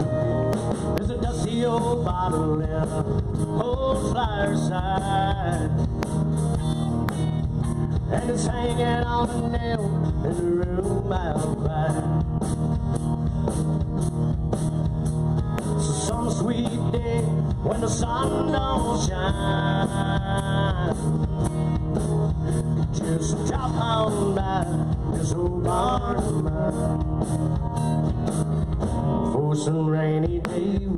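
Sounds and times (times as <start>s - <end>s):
steady drum beat: 0.0s - 29.2s, 30.3s - 30.9s
bass guitar: 0.0s - 30.9s
lead guitar with bending pitches: 0.0s - 30.9s.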